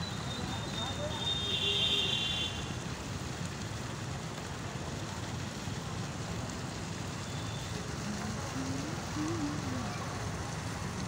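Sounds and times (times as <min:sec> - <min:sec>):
fountain water splashing over stone: 0:00.0 - 0:11.0.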